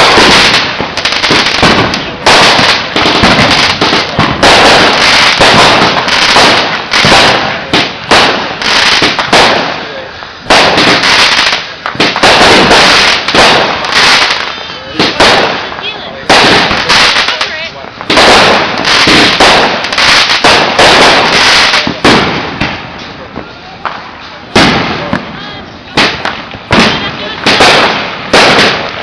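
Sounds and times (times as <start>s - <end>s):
fireworks bangs: 0.0s - 29.0s
fireworks crackling: 0.0s - 29.0s.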